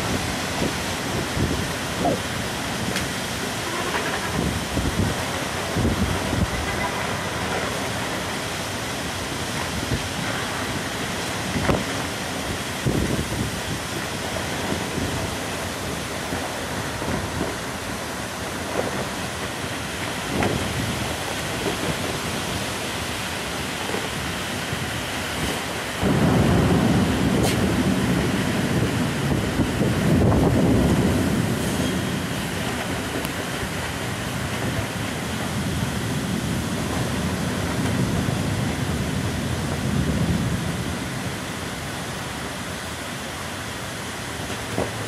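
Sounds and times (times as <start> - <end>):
thunder rumbling: 0.0 - 43.0
heavy rain pouring: 0.0 - 45.0.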